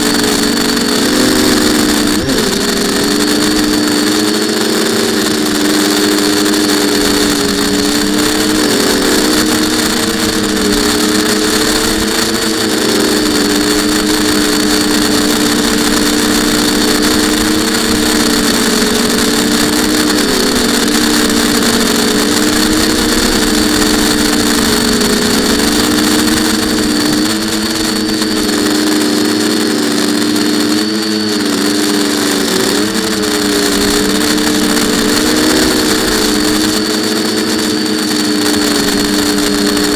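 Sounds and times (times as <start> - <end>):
drone motors humming: 0.0 - 39.9
high motor whine: 0.0 - 39.9
propeller wash and wind: 0.0 - 39.9.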